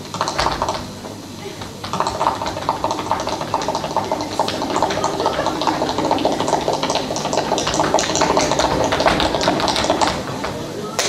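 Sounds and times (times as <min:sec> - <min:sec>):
tap shoes tap-dancing: 0:00.0 - 0:10.6.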